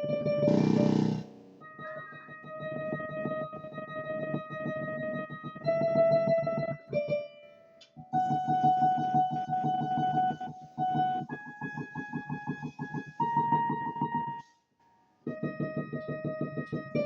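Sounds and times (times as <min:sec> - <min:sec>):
piano keys hammered rapidly: 0:00.0 - 0:07.4, 0:08.0 - 0:14.4, 0:15.3 - 0:17.0.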